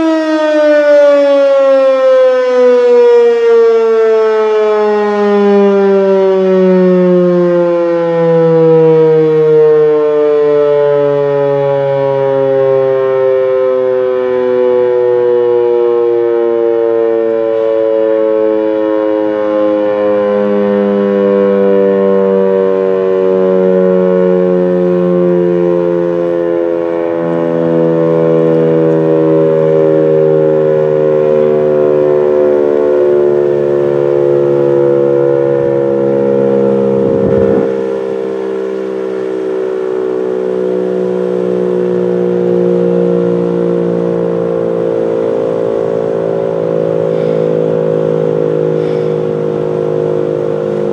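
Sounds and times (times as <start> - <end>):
warning siren winding down: 0.0 - 50.9.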